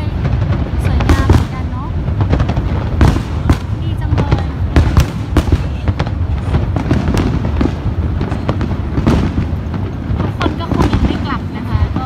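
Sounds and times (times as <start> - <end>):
fireworks bangs and booms: 0.0 - 12.0
rumble of explosions: 0.0 - 12.0.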